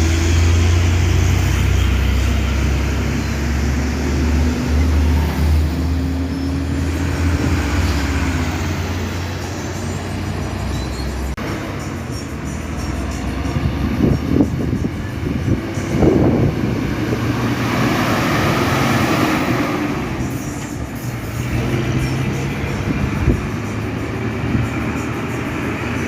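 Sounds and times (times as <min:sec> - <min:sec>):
diesel truck engine droning: 0:00.0 - 0:26.0.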